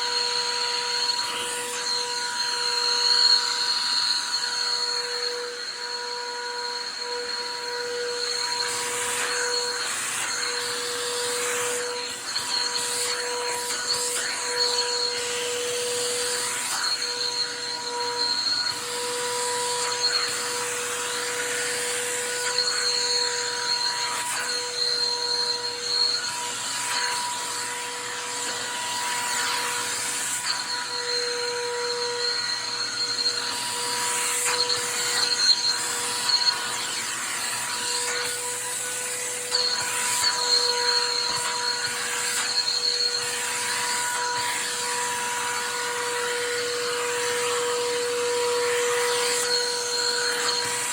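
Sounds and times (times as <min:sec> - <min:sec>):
shop vacuum running: 0:00.0 - 0:50.9.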